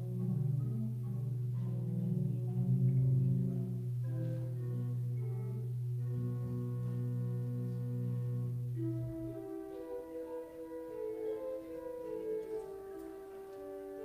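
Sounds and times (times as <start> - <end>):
slow instrumental music: 0.0 - 14.0.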